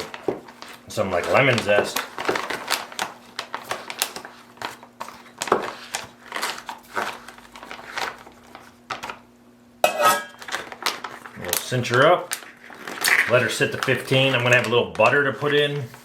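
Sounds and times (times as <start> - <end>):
foil pouch crinkling: 0.0 - 9.2, 10.3 - 16.0.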